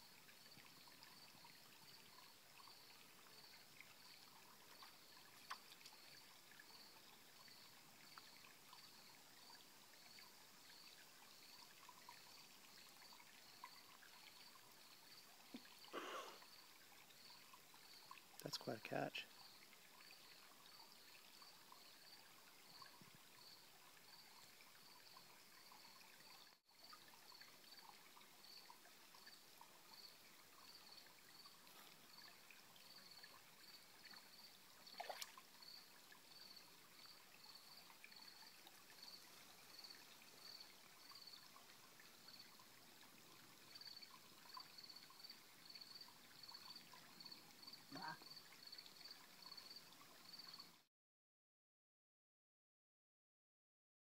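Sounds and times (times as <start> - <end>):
insect chirping: 0.0 - 18.2, 19.3 - 42.6, 43.7 - 50.7
stream water trickling: 0.0 - 50.9.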